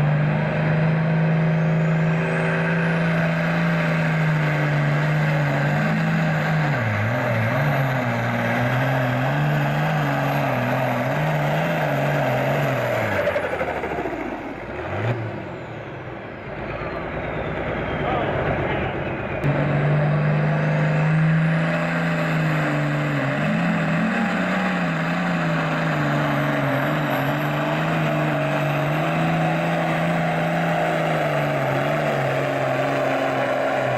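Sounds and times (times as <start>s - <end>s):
high turbo whine: 0.0s - 33.9s
tractor diesel engine at full throttle: 0.0s - 33.9s.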